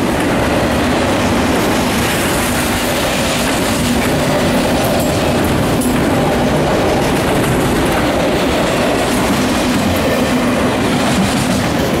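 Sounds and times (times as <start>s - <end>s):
steel wheels on rails: 0.0s - 12.0s.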